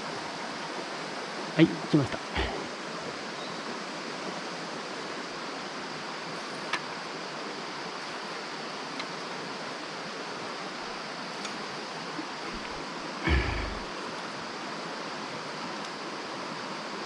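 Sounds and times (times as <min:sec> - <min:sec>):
stream water running over rocks: 0:00.0 - 0:17.0.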